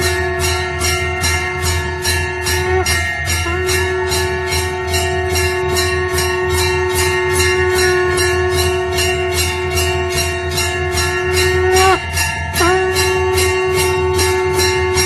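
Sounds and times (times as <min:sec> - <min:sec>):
bell ringing: 0:00.0 - 0:15.0.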